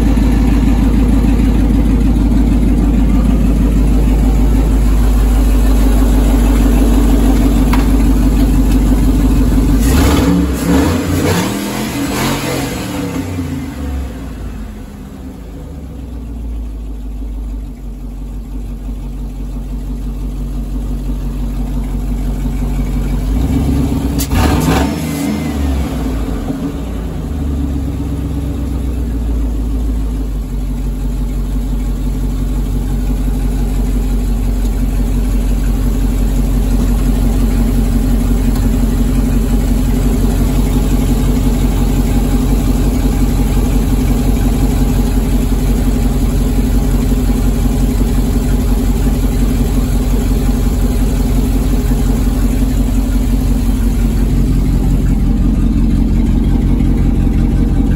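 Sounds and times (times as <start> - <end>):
engine idling: 0.0 - 57.9.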